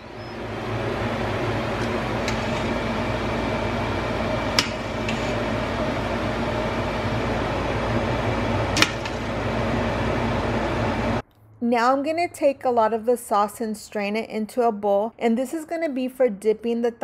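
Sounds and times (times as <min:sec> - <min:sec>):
fan-like hum: 0:00.0 - 0:15.1.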